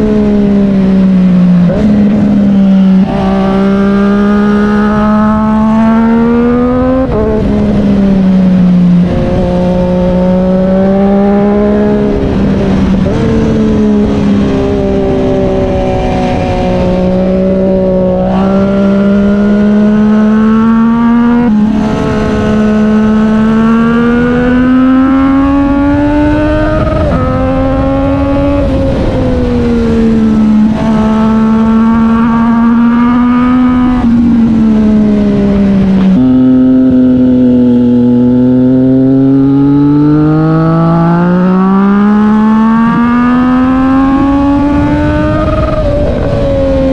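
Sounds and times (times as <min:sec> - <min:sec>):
motorcycle engine running loud: 0:00.0 - 0:46.9.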